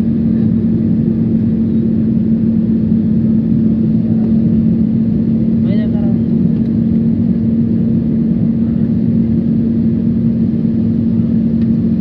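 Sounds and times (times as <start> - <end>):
constant low hum: 0.0 - 12.0
jet engine and airflow noise: 0.0 - 12.0.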